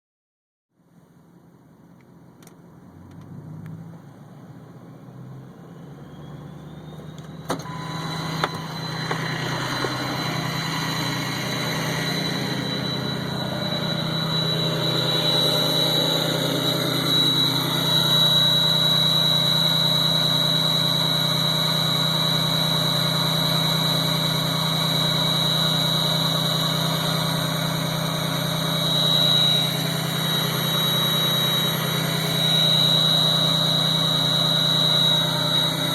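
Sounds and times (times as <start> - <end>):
diesel engine idling: 4.0 - 35.9
turbo whistle: 5.6 - 35.9.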